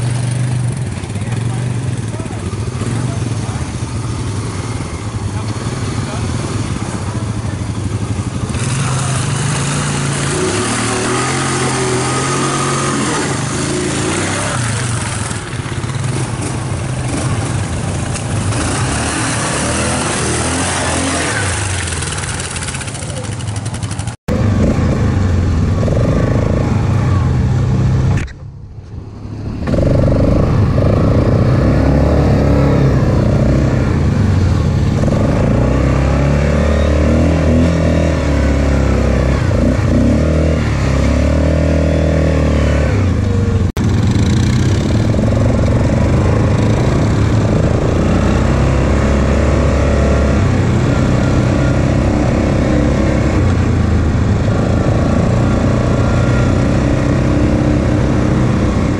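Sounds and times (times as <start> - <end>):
atv engines revving: 0.0 - 58.9.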